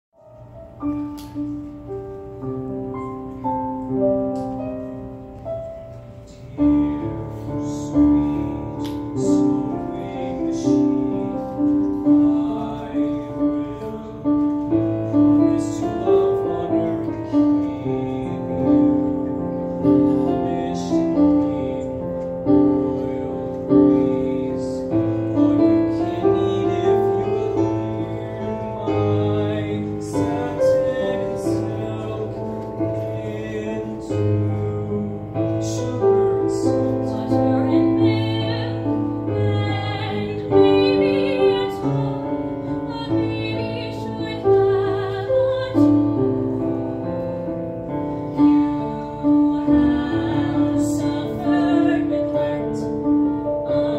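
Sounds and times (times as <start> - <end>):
piano chords: 0.1 - 53.9.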